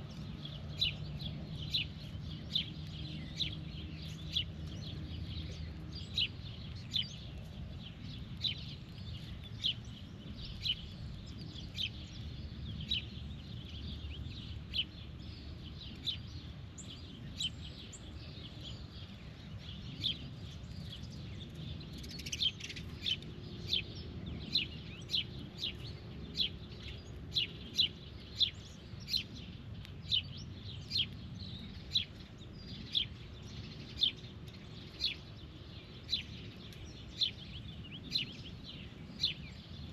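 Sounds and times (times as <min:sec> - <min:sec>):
low background rumble: 0:00.0 - 0:39.9.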